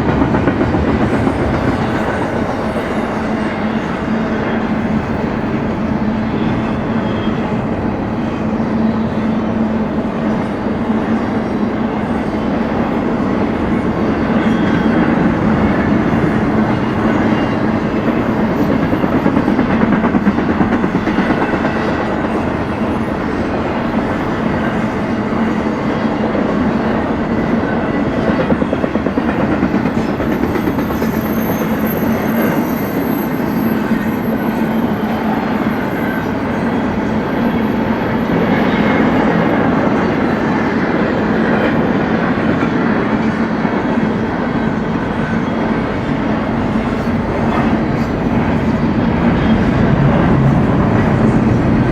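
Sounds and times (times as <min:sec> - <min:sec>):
wheels clickety-clack over rail joints: 0:00.0 - 0:07.8, 0:08.4 - 0:51.9
freight train cars rolling: 0:00.0 - 0:51.9.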